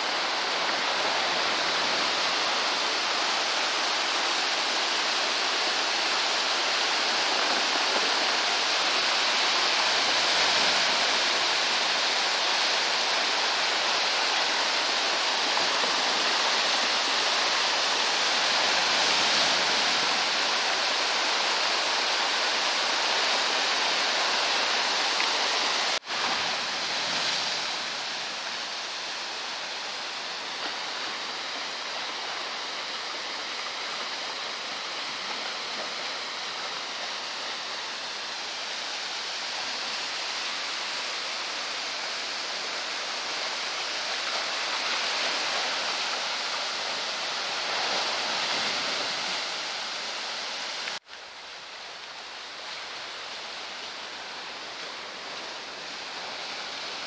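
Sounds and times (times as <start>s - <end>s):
surf churning against boulders: 0.0s - 51.0s.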